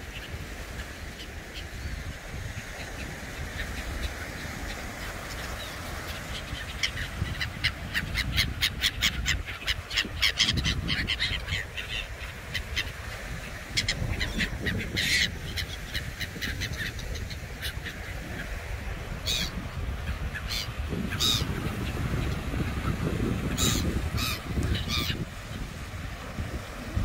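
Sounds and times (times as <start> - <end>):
surf and wind rushing: 0.0 - 27.0
gulls and pigeons calling: 0.1 - 27.0.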